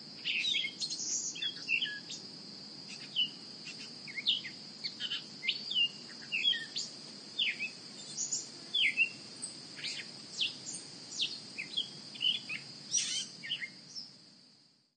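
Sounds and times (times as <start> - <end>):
high-pitched insect drone: 0.0 - 14.2
faint low background noise: 0.0 - 14.9
small birds chirping: 0.2 - 14.2.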